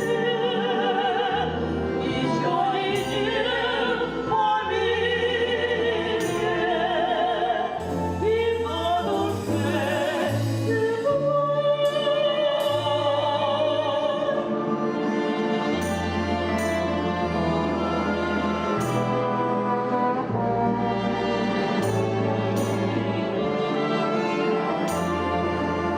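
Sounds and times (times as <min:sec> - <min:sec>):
instrumental accompaniment: 0:00.0 - 0:25.9.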